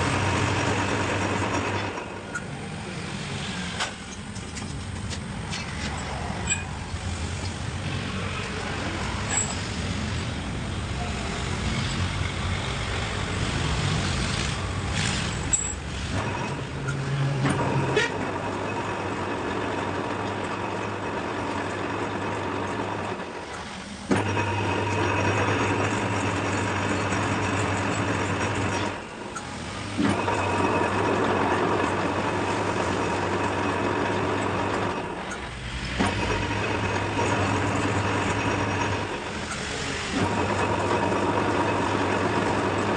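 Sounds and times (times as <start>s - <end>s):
workshop machine humming: 0.0s - 42.9s.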